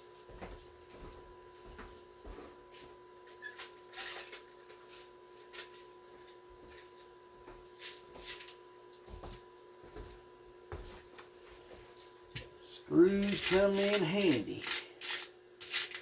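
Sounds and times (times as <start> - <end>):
faint electronic tones humming: 0.0 - 15.6.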